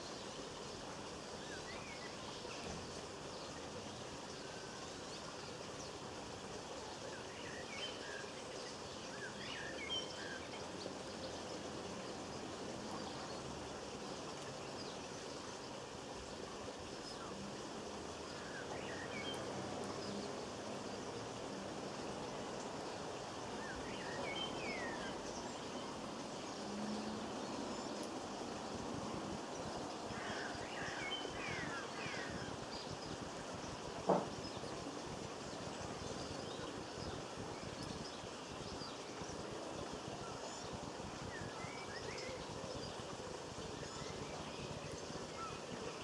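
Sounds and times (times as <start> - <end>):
outdoor ambience hiss: 0.0 - 46.0
songbirds chirping: 0.0 - 46.0.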